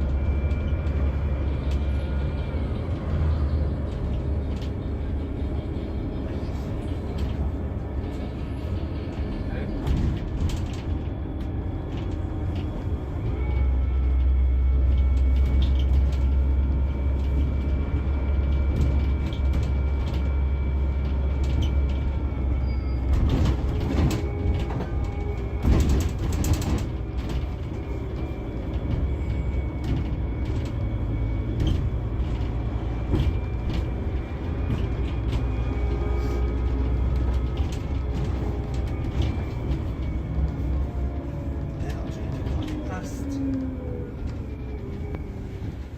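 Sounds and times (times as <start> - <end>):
coach engine drone: 0.0 - 45.9.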